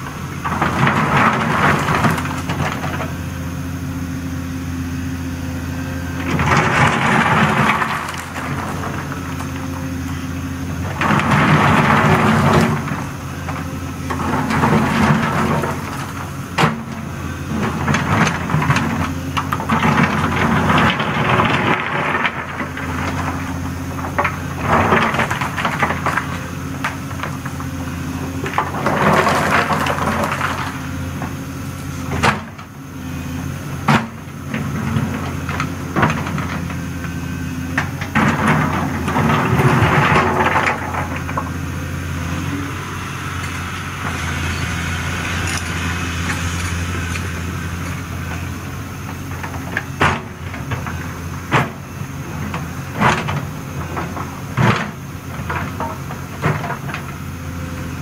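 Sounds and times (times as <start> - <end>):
rocks scraping and clattering: 0.0 - 3.2, 6.2 - 32.7, 33.8 - 57.2
diesel engine running: 0.0 - 58.0.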